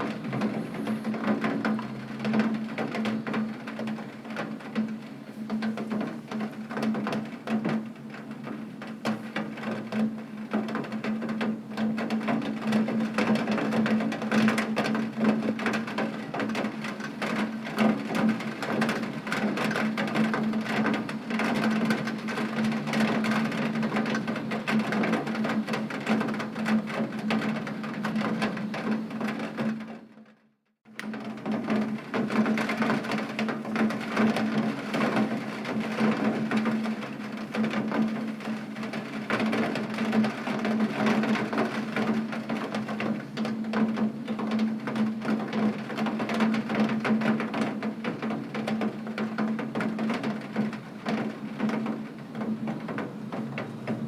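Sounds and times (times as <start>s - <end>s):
heavy rain hitting window: 0.0s - 30.2s, 30.9s - 54.0s.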